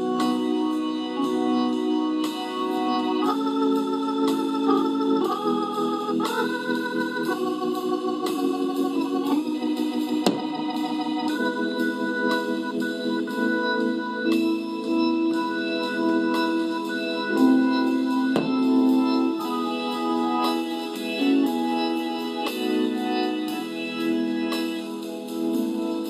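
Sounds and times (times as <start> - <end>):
slow organ chords: 0.0 - 26.0.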